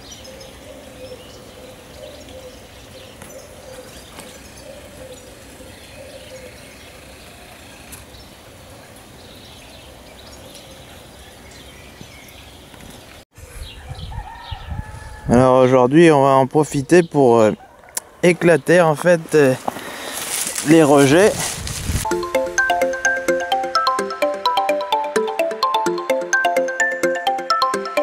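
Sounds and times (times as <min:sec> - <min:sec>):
birds chirping and calling: 0:00.0 - 0:23.6.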